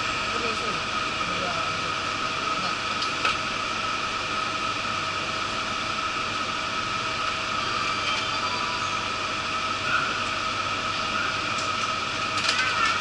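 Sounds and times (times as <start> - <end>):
faint constant whine: 0.0 - 13.0.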